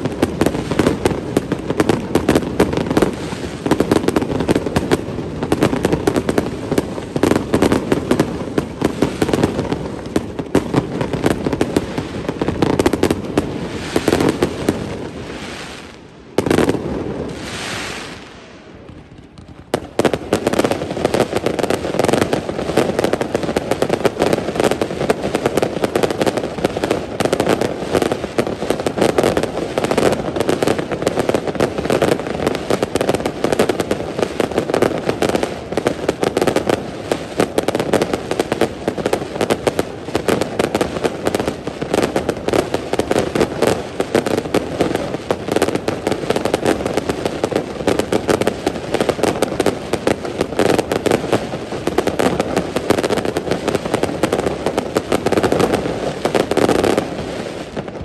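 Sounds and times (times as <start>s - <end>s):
fireworks crackling bangs: 0.0s - 58.0s.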